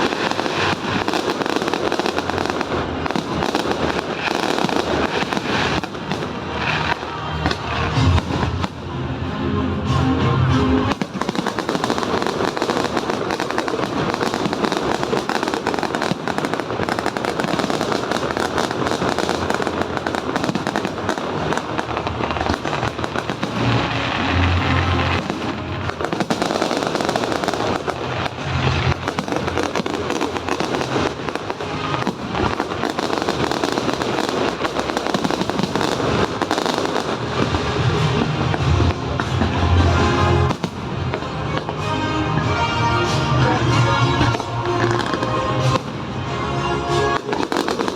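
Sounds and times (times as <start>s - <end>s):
fireworks bangs and crackling: 0.0s - 47.9s
music playing: 0.0s - 47.9s.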